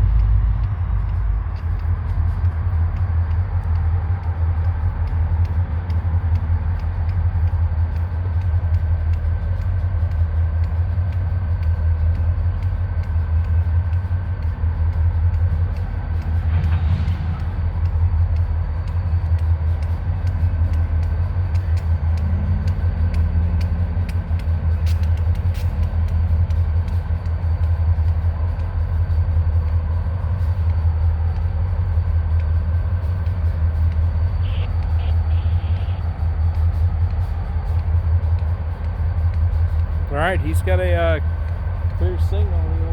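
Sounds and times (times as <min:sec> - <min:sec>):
diesel locomotive rumble: 0:00.0 - 0:42.9
faint clicks: 0:00.1 - 0:42.4.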